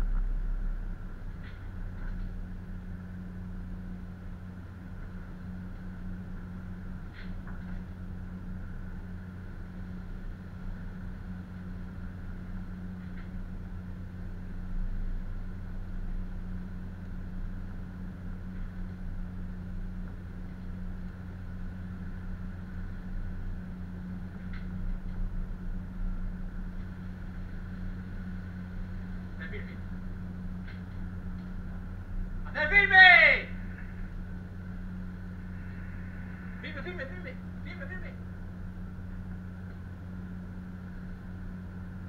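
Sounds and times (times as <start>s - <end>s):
boat engines droning: 0.0s - 42.0s
faint high whine: 0.0s - 42.0s.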